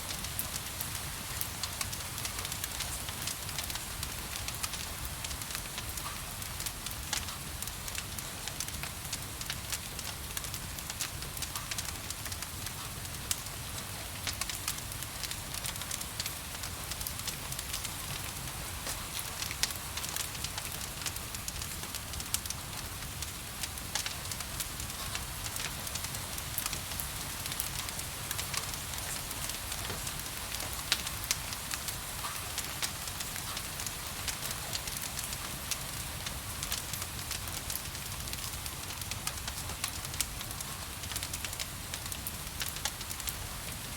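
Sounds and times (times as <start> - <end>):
wood fire crackling and popping: 0.1 - 43.9.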